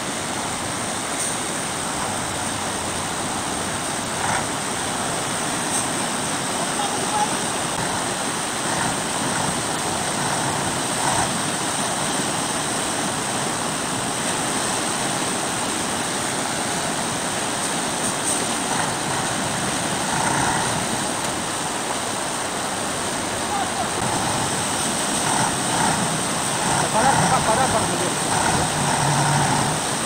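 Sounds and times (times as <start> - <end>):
river rushing: 0.0 - 30.0
truck engine droning: 0.1 - 15.0, 16.0 - 30.0.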